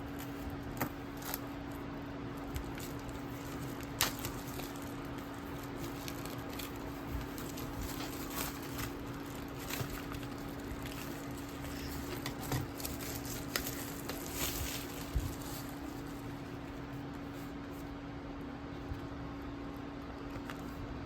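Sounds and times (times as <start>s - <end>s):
packaging and books handled: 0.0s - 17.9s
steady low hum: 0.0s - 21.0s.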